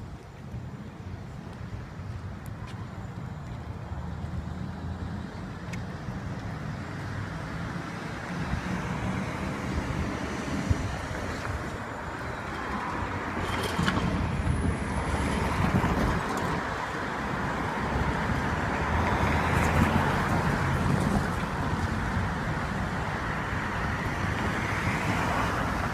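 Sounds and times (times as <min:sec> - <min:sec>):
rumble of tyres and engines: 0:00.0 - 0:25.9
cars driving past: 0:02.0 - 0:25.9.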